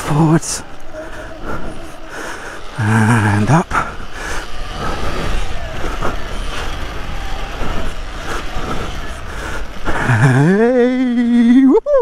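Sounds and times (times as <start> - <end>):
tyres and air rushing: 0.0 - 11.7.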